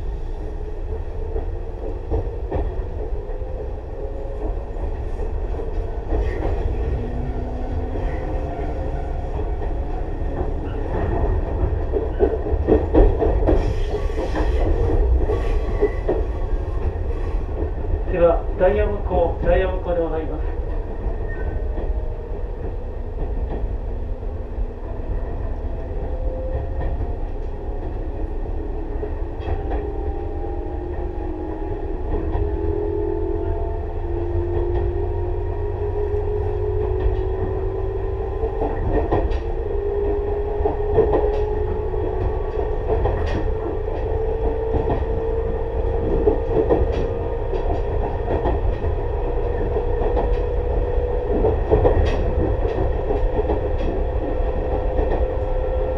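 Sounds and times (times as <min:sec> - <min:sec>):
low train rumble: 0:00.0 - 0:55.9.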